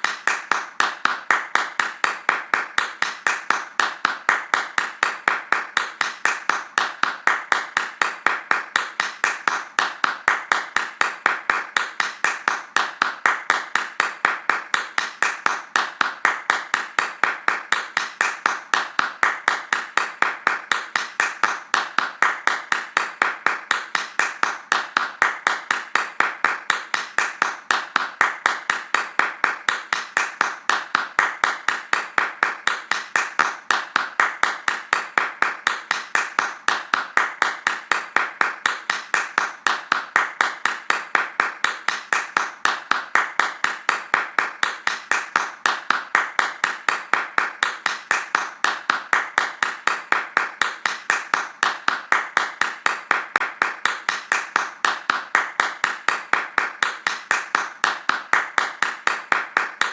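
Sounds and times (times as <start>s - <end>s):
hands clapping fast: 0.0s - 59.9s.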